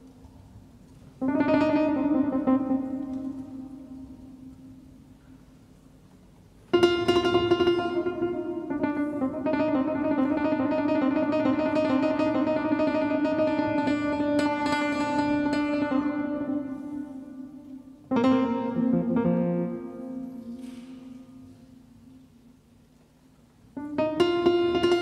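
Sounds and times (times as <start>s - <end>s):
instrumental music: 0.0s - 25.0s.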